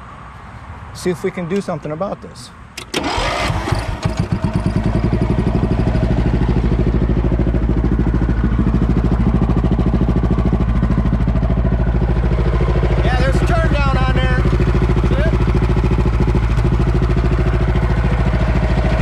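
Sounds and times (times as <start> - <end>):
small engine idling: 3.0 - 19.0.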